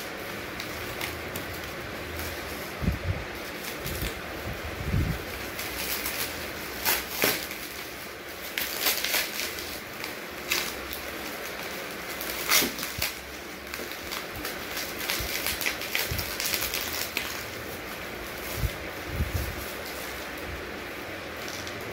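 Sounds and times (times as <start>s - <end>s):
bubble wrap and plastic bag crinkling: 0.0s - 21.9s.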